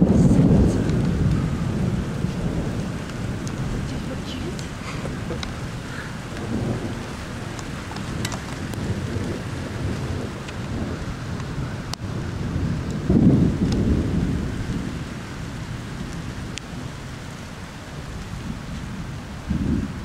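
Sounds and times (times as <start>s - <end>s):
rain drop ticks: 0.0s - 12.1s, 12.7s - 19.6s
steady rain: 0.0s - 20.0s
thunder rumbling: 0.0s - 20.0s.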